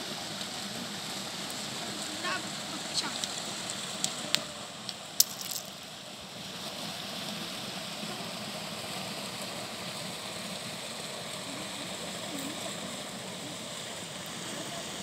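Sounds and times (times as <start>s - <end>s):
water pouring from a spout: 0.0s - 15.0s.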